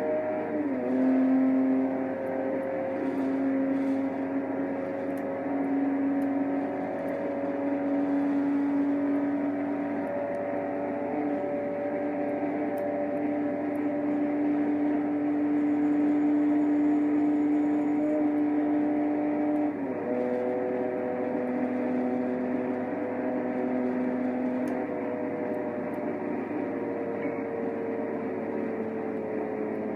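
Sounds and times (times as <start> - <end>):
car engine droning under acceleration: 0.0 - 29.9.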